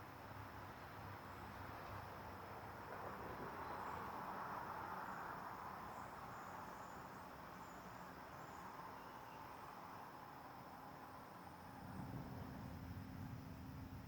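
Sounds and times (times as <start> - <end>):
distant road traffic hum: 0.0 - 14.0
faint insect chirps: 0.0 - 14.0.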